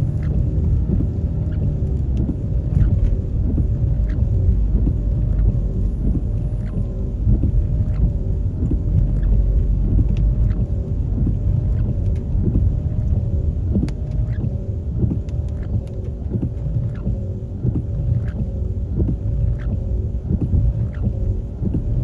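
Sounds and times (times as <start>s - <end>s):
faint steady drone: 0.0s - 22.0s
vehicle engine and tyre rumble: 0.0s - 22.0s.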